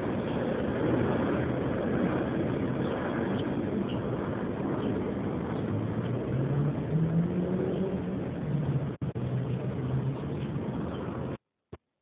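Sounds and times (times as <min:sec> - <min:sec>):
motor vehicle rumble: 0:00.0 - 0:11.9.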